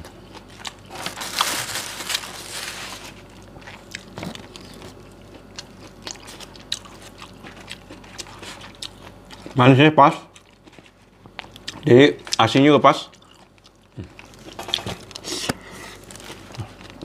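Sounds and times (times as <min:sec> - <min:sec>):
food rustling and crunching: 0:00.0 - 0:09.7, 0:10.3 - 0:17.0.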